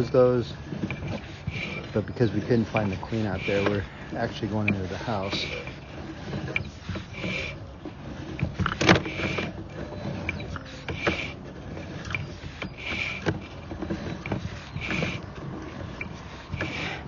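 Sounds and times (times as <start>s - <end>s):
push cable rattling and clicking: 0.0s - 17.0s.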